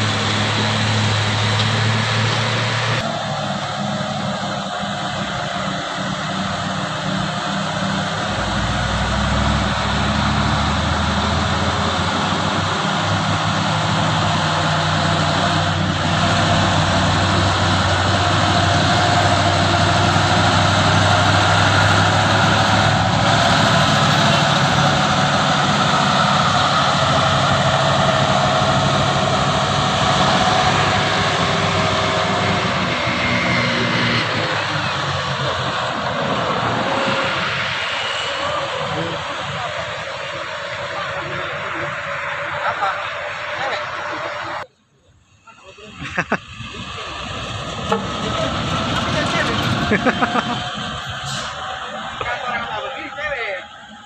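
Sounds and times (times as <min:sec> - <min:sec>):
steady whine: 0:00.0 - 0:54.0
truck diesel engine under load: 0:00.0 - 0:54.0.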